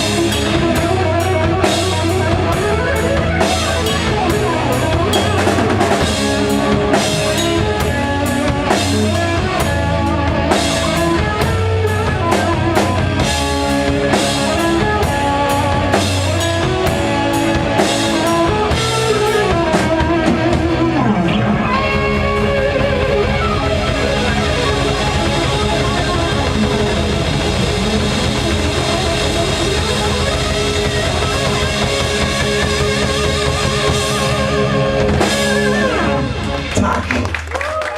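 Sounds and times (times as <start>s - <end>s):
drum kit hits: 0.0s - 37.5s
electric guitars: 0.0s - 37.9s.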